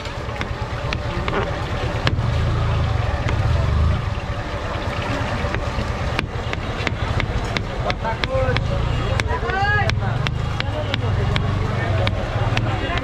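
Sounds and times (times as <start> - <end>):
street noise rumble: 0.0 - 13.0.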